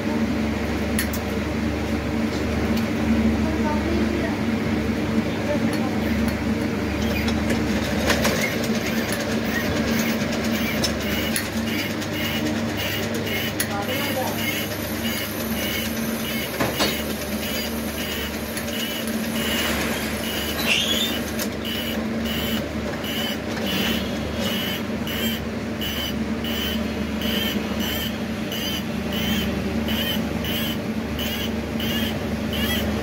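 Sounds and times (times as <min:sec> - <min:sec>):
machine motor hum: 0:00.0 - 0:33.0.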